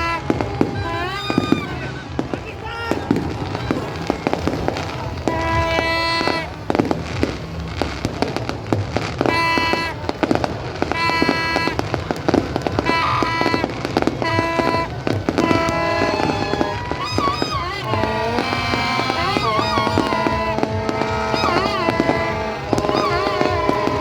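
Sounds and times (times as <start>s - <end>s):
fireworks bangs and crackling: 0.0s - 24.0s
music with long held notes: 0.0s - 24.0s.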